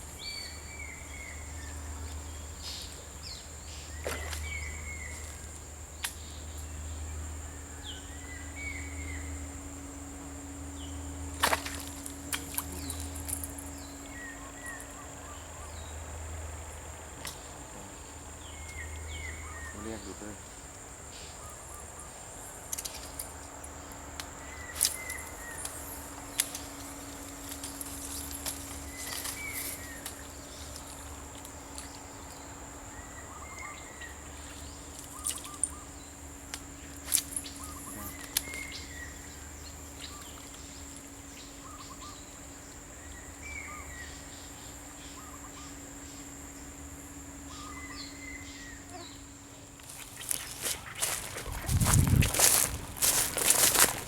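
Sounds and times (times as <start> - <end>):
high insect buzz: 0.0 - 54.0.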